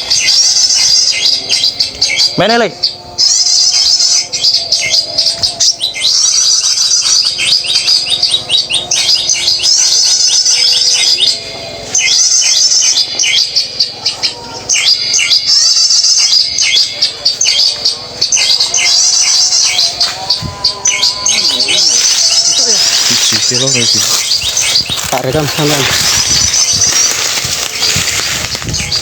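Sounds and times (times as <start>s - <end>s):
songbird chirps and trills: 0.0s - 29.0s.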